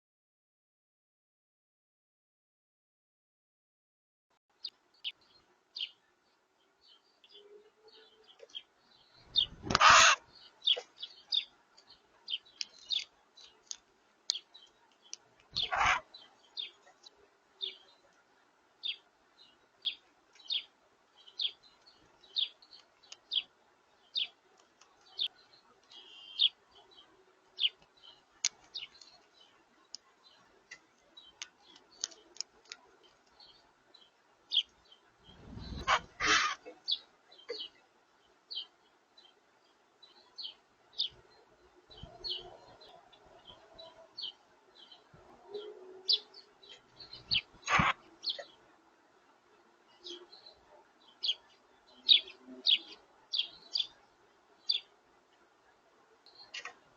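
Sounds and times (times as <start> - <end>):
small birds chirping: 4.5 - 56.9.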